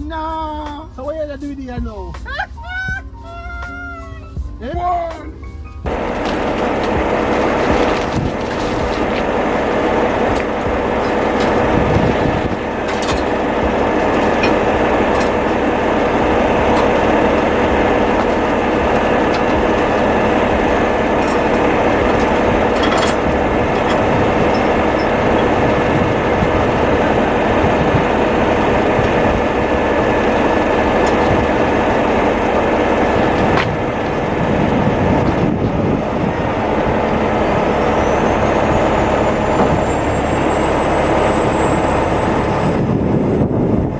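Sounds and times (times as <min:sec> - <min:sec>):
continuous whine: 0:05.9 - 0:43.9
diesel truck engine running: 0:05.9 - 0:43.9.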